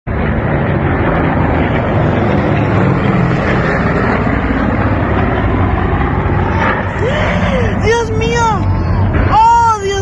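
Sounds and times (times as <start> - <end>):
aircraft engines droning: 0.1 - 10.0.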